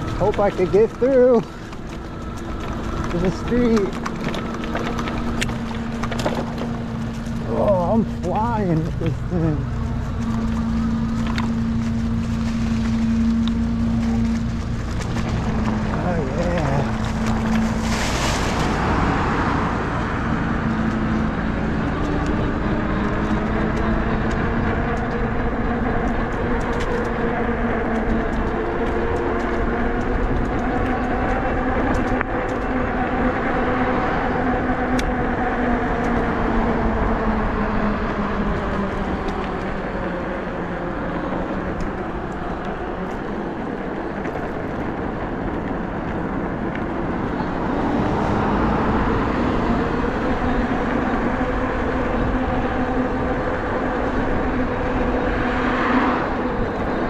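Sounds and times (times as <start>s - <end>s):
electric bike motor hum: 0.0s - 57.0s
wind rumble on microphone: 0.0s - 57.0s.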